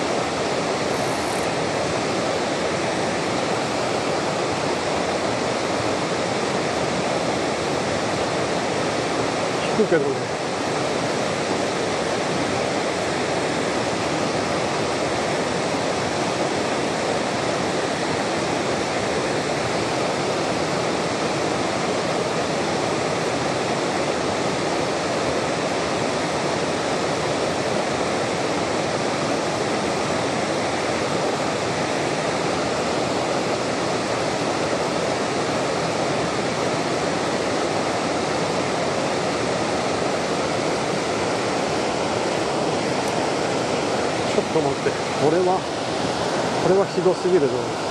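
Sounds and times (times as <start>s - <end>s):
water rushing over a weir: 0.0s - 47.9s.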